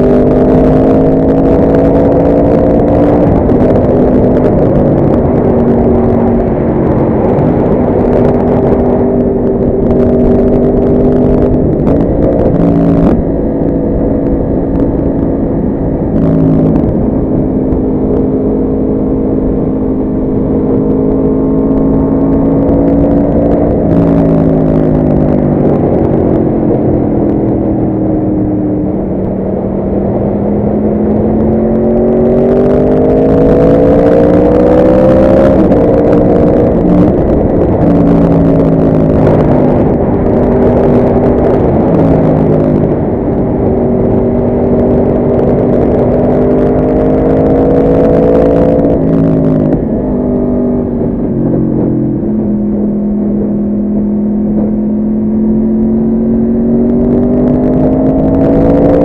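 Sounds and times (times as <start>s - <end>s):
motorcycle engine revving: 0.0s - 59.0s
wind noise rushing: 0.0s - 59.0s.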